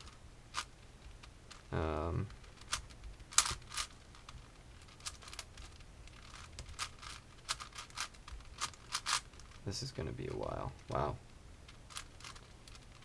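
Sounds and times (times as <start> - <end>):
plastic cube clicking: 0.0 - 9.6, 11.7 - 13.0.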